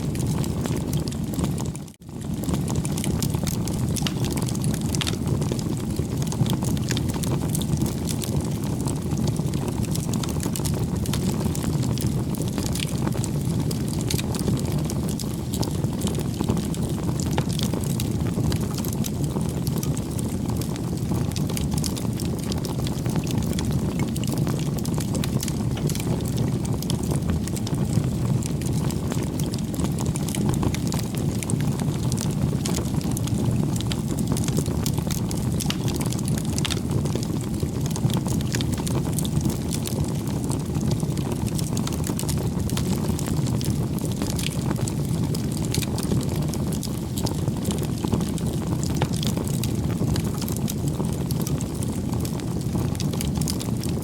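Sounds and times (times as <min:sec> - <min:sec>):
bonfire flame rushing: 0:00.0 - 0:54.0
burning wood crackling: 0:00.0 - 0:54.0.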